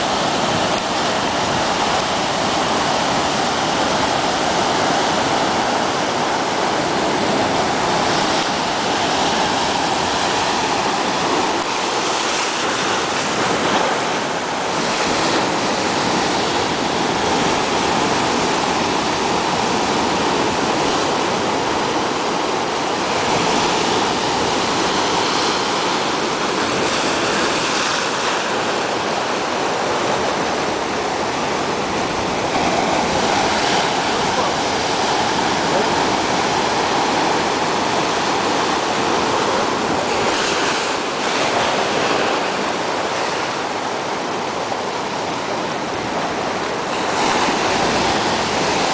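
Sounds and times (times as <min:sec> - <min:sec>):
surf breaking on rocks: 0:00.0 - 0:48.9.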